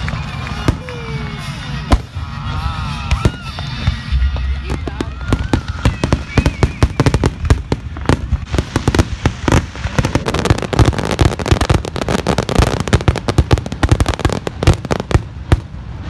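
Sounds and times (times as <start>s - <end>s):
fireworks bursts and bangs: 0.0s - 16.0s
fireworks crackling: 0.0s - 16.0s.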